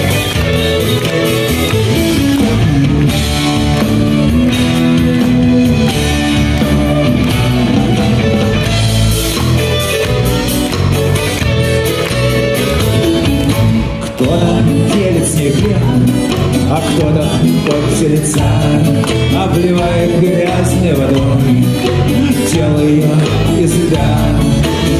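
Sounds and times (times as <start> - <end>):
drum kit playing: 0.0 - 24.9
rock guitars: 0.0 - 24.9.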